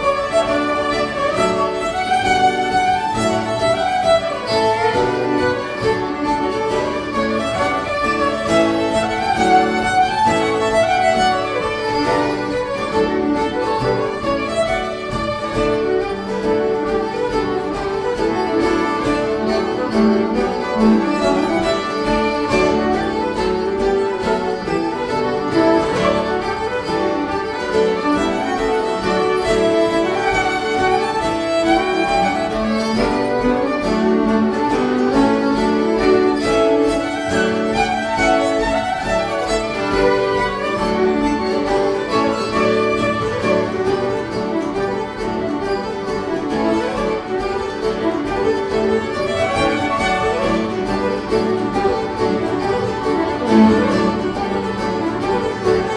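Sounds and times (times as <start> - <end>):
acoustic guitar: 0.0 - 55.9
fiddles playing: 0.0 - 55.9.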